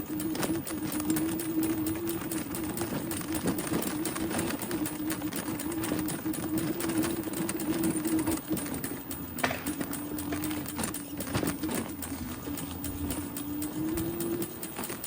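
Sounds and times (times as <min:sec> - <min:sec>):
bicycle mechanical ticking: 0:00.0 - 0:15.0
sharp bicycle click: 0:00.0 - 0:15.0
steady hum: 0:00.0 - 0:15.0.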